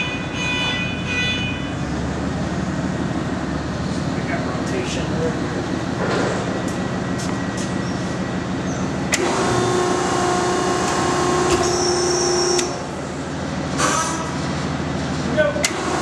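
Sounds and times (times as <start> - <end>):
high machine whine: 0.0 - 14.8
baler machine hum: 0.0 - 16.0.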